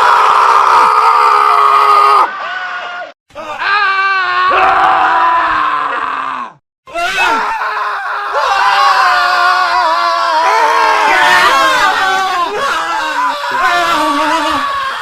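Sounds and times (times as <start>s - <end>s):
men screaming: 0.0s - 15.0s.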